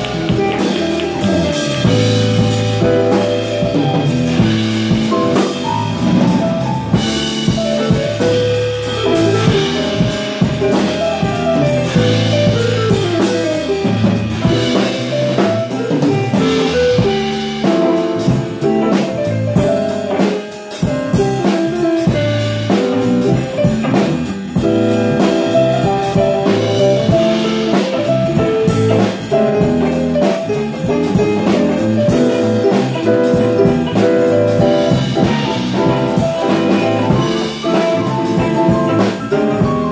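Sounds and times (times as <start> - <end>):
drum kit steady beat: 0.0 - 39.9
electric bass: 0.0 - 39.9.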